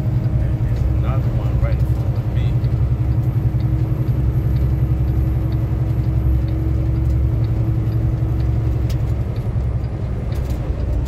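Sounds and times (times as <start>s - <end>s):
truck cab road rumble: 0.0s - 11.0s.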